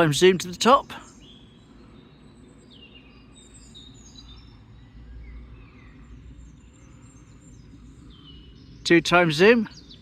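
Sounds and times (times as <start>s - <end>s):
low outdoor rumble: 0.0s - 10.0s
songbirds chirping: 0.0s - 10.0s.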